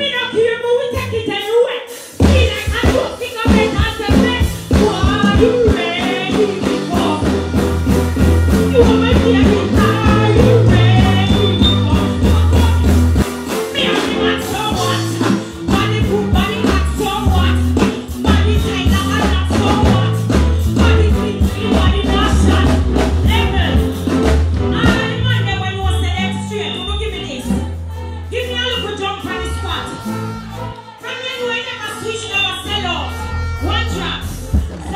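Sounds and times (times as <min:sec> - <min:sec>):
woman singing into a microphone: 0:00.0 - 0:07.7, 0:08.5 - 0:23.8, 0:24.7 - 0:34.9
loud backing track with heavy bass: 0:00.0 - 0:34.9.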